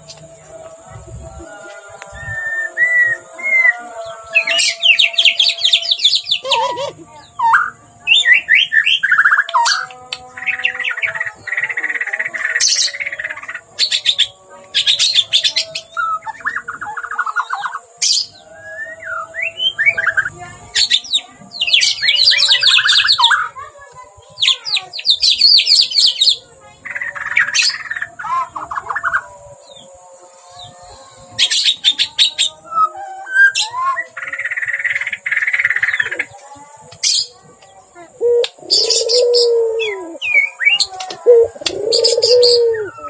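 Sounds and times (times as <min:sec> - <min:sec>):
songbird singing trills and whistles: 0:01.4 - 0:43.0.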